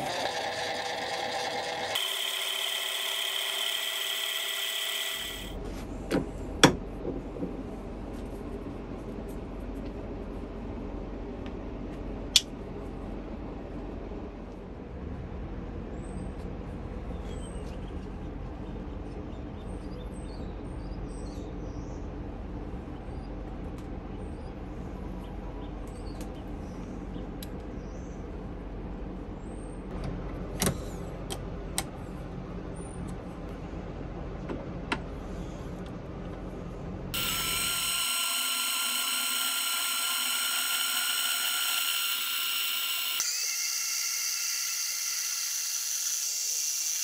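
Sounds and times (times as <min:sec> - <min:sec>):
low machine hum: 0:00.0 - 0:43.2.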